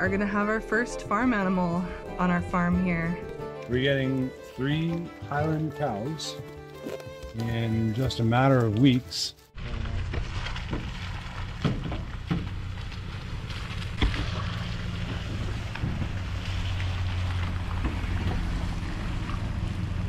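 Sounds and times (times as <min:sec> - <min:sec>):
truck engine running: 0:00.0 - 0:06.8, 0:09.6 - 0:20.0.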